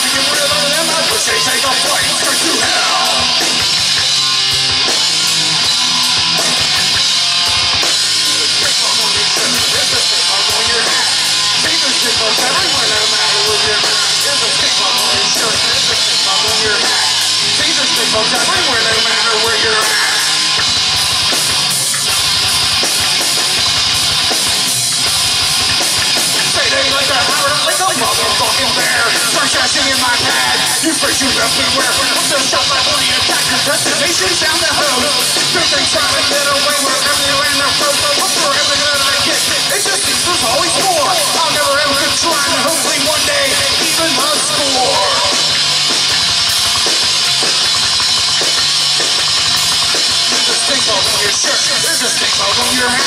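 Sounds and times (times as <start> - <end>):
bass guitar: 0.0 - 53.0
drum kit: 0.0 - 53.0
electric guitar: 0.0 - 53.0.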